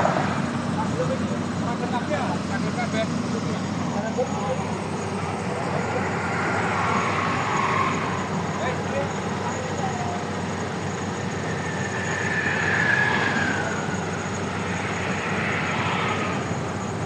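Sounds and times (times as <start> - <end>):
diesel machinery rumbling: 0.0 - 17.0
high whine: 0.0 - 17.0.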